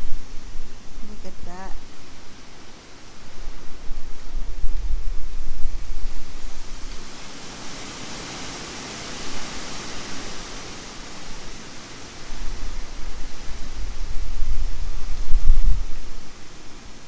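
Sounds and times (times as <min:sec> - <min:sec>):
storm wind rushing hiss: 0:00.0 - 0:17.0
wind gusts buffeting microphone: 0:00.0 - 0:17.0.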